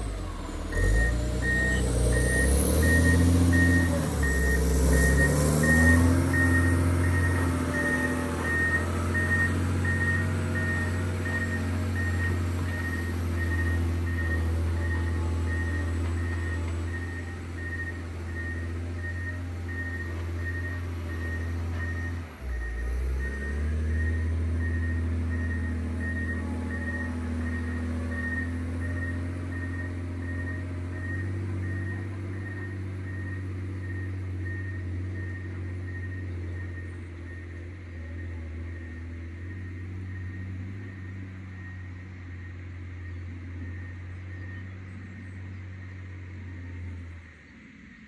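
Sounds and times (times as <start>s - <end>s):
reversing alarm beeps: 0.0s - 46.0s
diesel engine running: 0.0s - 48.0s.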